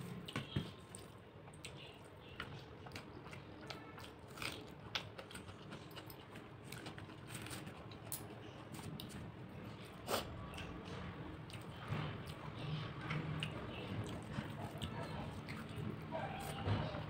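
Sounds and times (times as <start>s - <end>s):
person chewing food: 0.1s - 10.8s, 11.4s - 17.0s.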